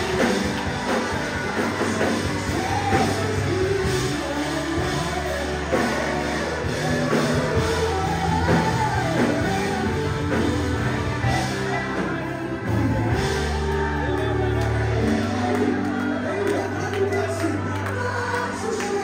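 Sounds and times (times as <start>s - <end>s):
low bass notes: 0.0s - 18.7s
band accompaniment: 0.0s - 19.0s
voices singing together: 0.0s - 19.0s.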